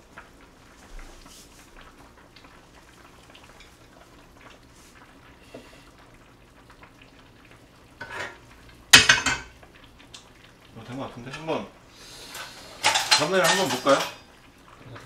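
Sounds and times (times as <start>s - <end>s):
stew bubbling with small pops: 0.0s - 11.9s, 14.3s - 15.0s.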